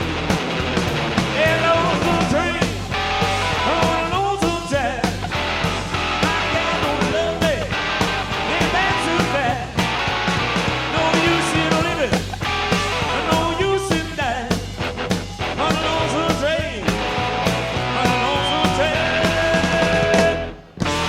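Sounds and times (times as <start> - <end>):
electric guitar lead with bent notes: 0.0 - 21.0
rock and roll band music: 0.0 - 21.0.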